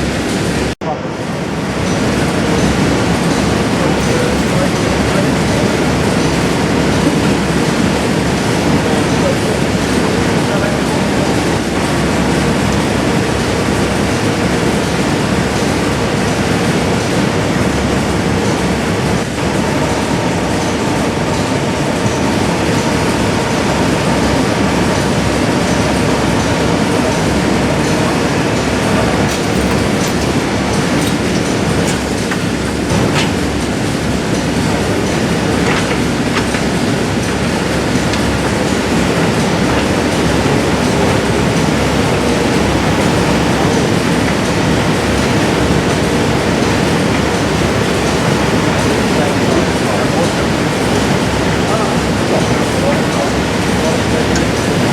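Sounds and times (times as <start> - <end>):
industrial machinery running: 0.0 - 54.9.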